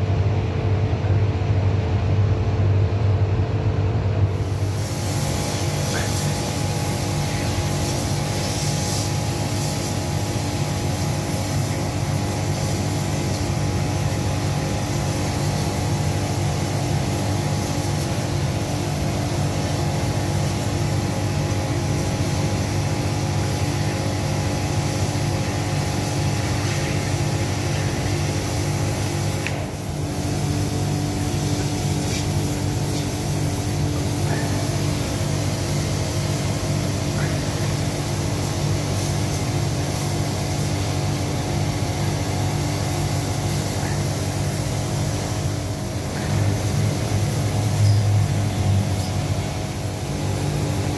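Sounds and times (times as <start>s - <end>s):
drain-jetting machine drone: 0.0s - 50.9s
jetting hose hissing: 4.3s - 50.9s.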